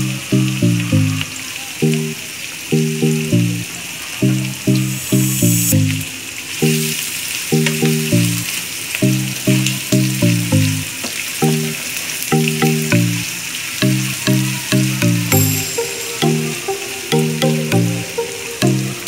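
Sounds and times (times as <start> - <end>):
plucked background music: 0.0 - 19.0.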